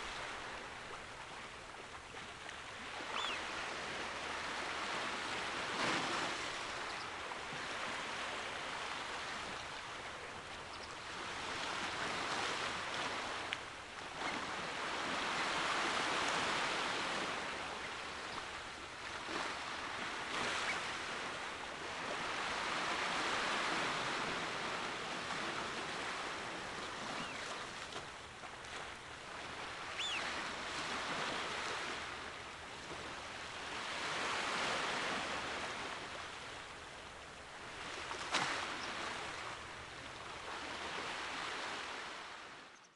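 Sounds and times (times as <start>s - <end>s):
sea waves washing on shore: 0.0s - 42.7s.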